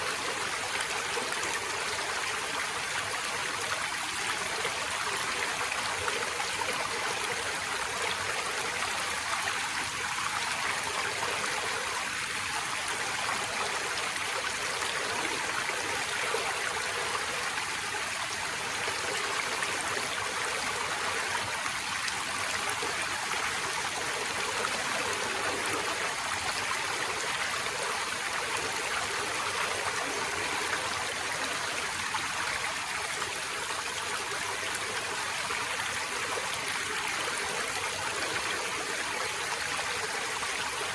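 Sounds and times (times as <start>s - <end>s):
forest stream rushing and gurgling: 0.0s - 40.9s.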